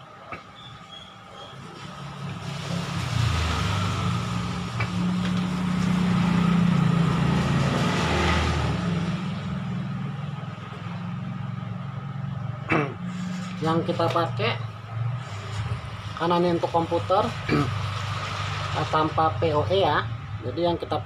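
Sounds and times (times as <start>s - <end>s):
motor vehicle passing: 0.6s - 21.0s.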